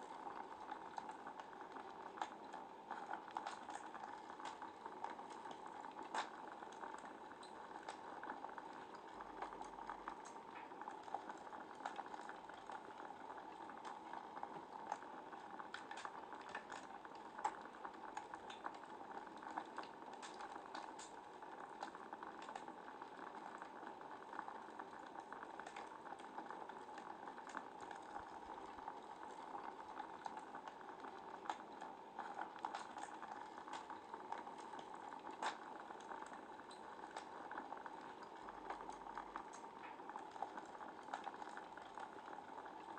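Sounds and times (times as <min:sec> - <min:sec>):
wood fire crackling and popping: 0:00.4 - 0:18.8, 0:19.4 - 0:23.7, 0:25.2 - 0:37.4.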